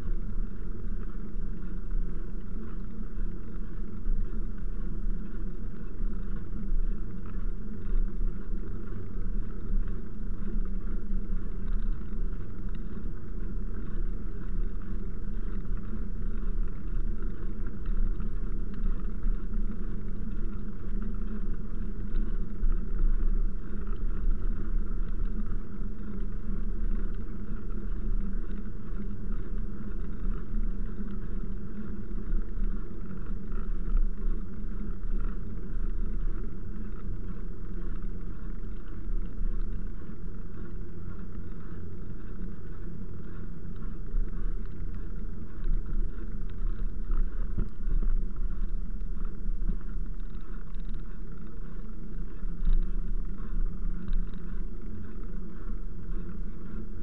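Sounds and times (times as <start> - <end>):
wind noise: 0.0 - 57.0.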